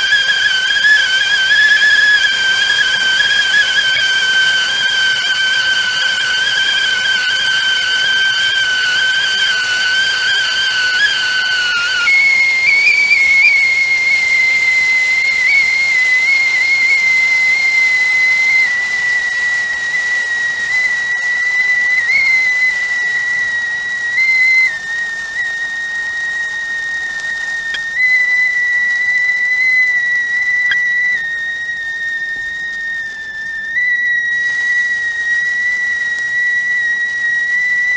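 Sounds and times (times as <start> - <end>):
steam hissing: 0.0 - 37.9
tea kettle whistling: 0.0 - 37.9.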